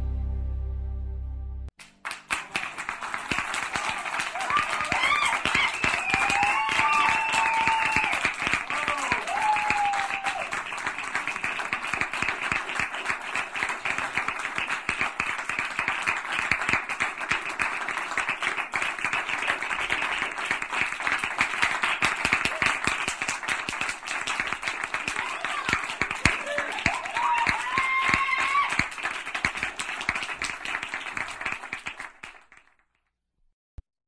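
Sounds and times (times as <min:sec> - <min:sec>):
people clapping: 0:01.8 - 0:33.0.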